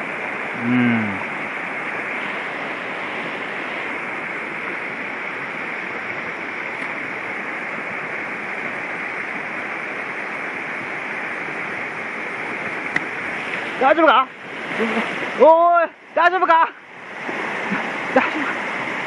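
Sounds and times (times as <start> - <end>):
mountain stream rushing: 0.0 - 19.0.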